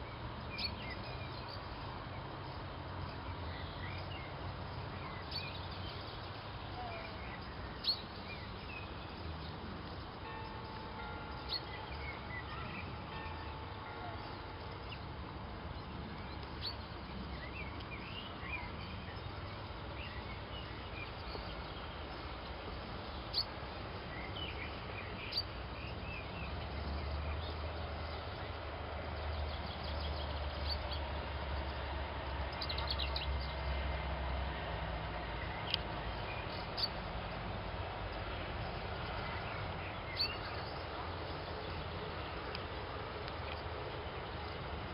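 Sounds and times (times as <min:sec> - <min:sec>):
small birds chirping: 0:00.0 - 0:44.9
steady background hiss: 0:00.0 - 0:44.9.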